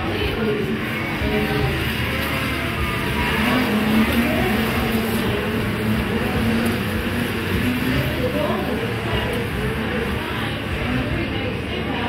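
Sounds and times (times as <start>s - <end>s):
snowmobile engines revving: 0.0s - 12.0s.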